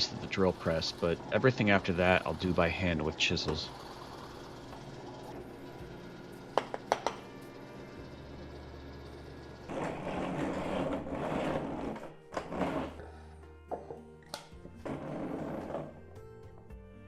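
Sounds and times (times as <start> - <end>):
quiet background music: 0.0 - 17.0.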